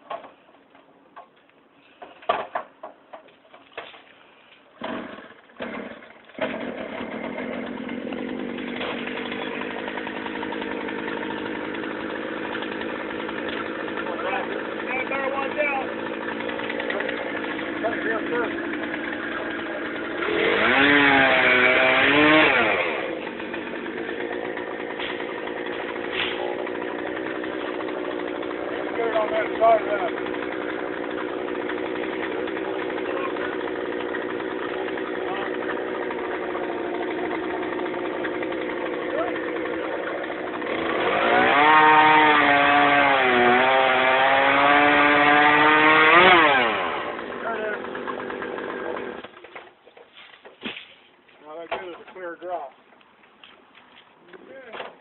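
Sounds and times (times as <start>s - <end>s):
chainsaw revving: 4.8s - 49.4s.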